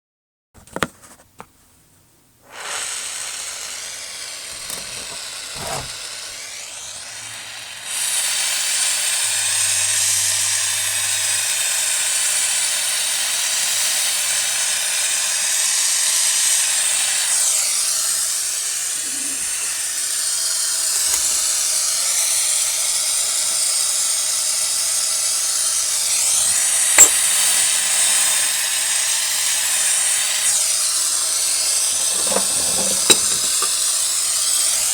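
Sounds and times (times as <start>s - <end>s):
gas flame hissing: 2.4s - 34.9s.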